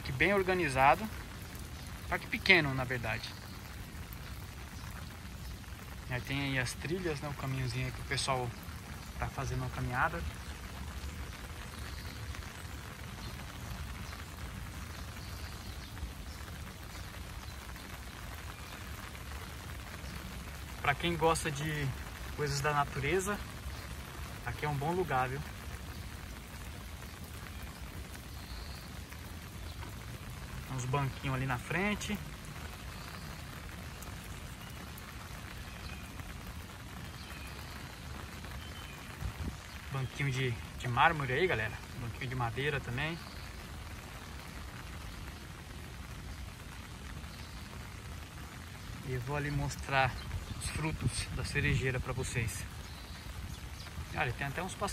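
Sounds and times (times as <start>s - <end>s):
steady rain on trees: 0.0s - 54.9s.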